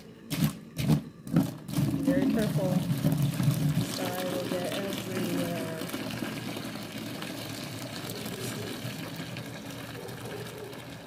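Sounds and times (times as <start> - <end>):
water pouring and splashing: 0.3 - 11.0.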